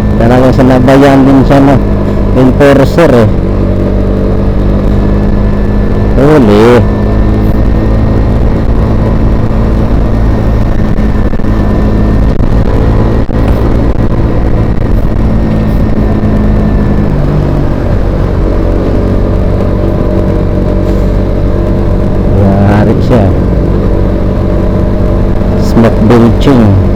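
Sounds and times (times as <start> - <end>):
road rumble: 0.0 - 26.9
vehicle engine running: 0.0 - 26.9.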